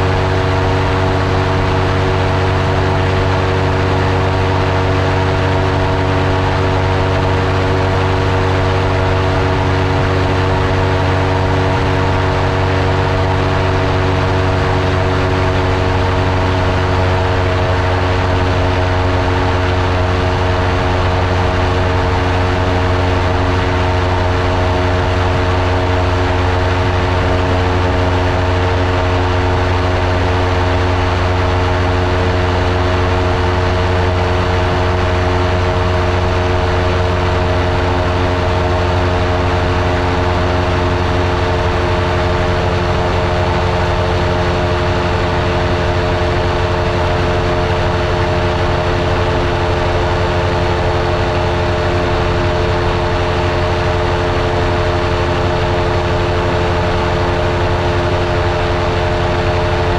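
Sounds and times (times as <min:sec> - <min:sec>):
ultralight aircraft engine droning: 0:00.0 - 0:59.9.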